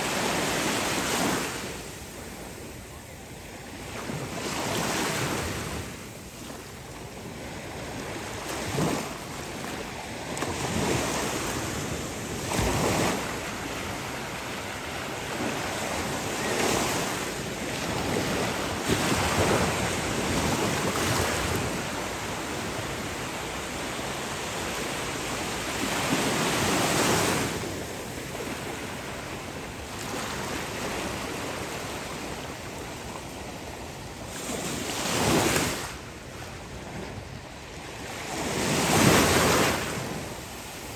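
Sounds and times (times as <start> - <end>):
ocean waves breaking: 0.0 - 2.6, 3.7 - 33.5, 34.1 - 40.9.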